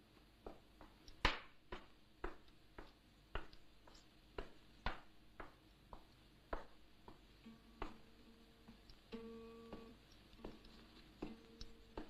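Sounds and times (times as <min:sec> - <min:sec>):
footsteps going down stairs: 0:00.1 - 0:08.9, 0:09.7 - 0:12.0.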